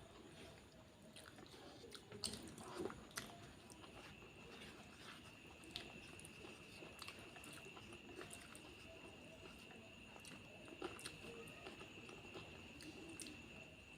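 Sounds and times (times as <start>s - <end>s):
chewing with wet mouth sounds: 0.0s - 13.9s
faint high-pitched whine: 0.0s - 13.9s.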